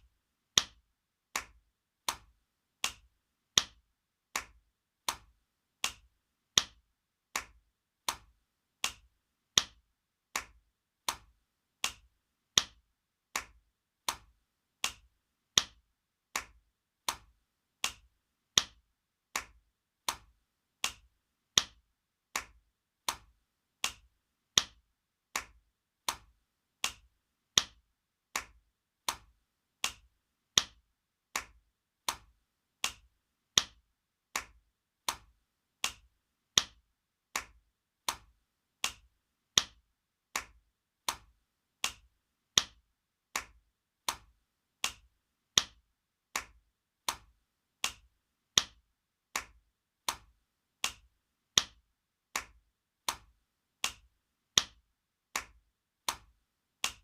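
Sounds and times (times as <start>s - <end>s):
hand slapping skin: 0.6s - 57.0s.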